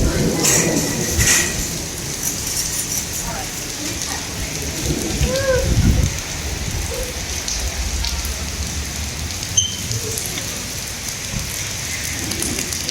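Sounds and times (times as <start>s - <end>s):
low rumble: 0.0s - 3.0s, 3.6s - 11.5s
rain and wind rushing: 0.0s - 12.9s.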